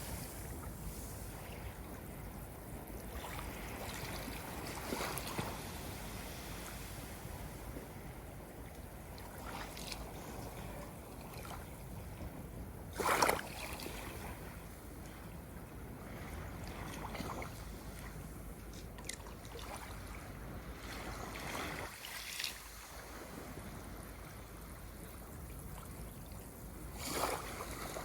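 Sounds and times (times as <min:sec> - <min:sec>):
ocean water lapping: 0:00.0 - 0:12.3, 0:12.9 - 0:28.0.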